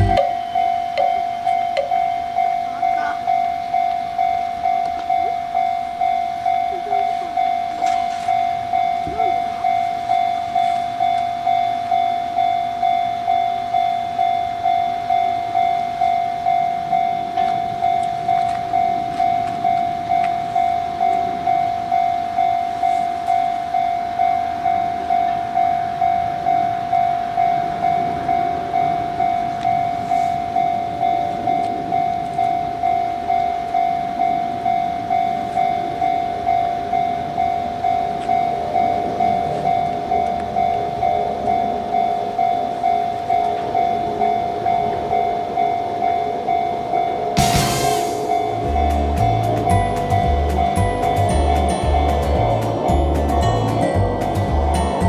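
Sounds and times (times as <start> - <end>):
level crossing electronic bell: 0.0 - 55.0.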